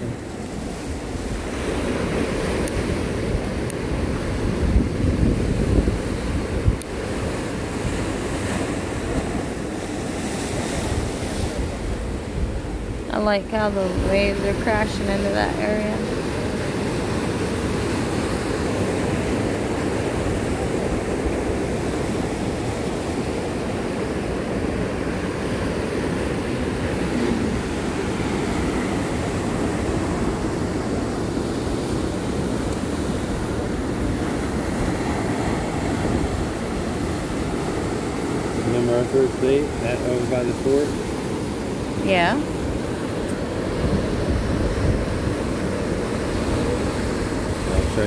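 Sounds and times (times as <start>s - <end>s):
ocean surf breaking: 0.0s - 48.0s.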